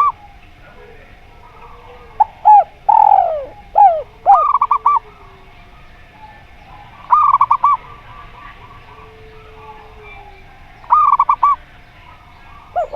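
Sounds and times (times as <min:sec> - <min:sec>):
doves cooing: 0:00.0 - 0:12.9.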